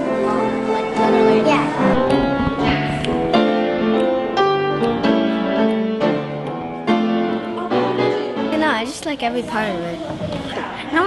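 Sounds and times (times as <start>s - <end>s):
piano chords ringing: 0.0s - 8.9s.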